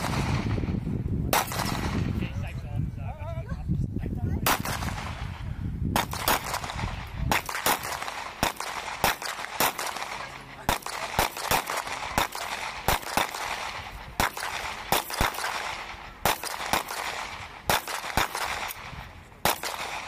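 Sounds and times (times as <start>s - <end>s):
pistol shots: 0.0s - 0.7s, 1.3s - 2.2s, 4.4s - 5.3s, 5.9s - 20.0s.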